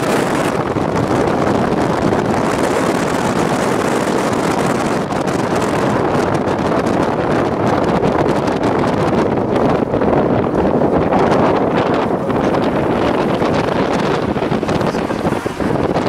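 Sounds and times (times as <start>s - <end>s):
tyre and road noise: 0.0s - 16.0s
wind buffeting microphone: 0.0s - 16.0s.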